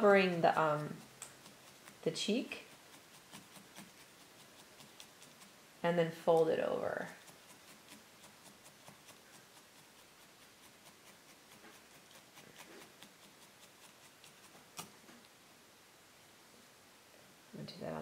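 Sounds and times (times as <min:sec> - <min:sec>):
felting needles ticking into wool: 0:00.0 - 0:05.7, 0:06.3 - 0:15.4.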